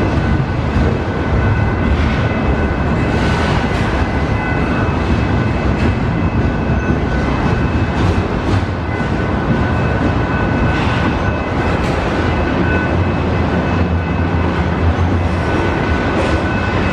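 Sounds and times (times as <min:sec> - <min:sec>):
freight train rumbling past: 0:00.0 - 0:16.9
train wheels clacking: 0:00.0 - 0:16.9.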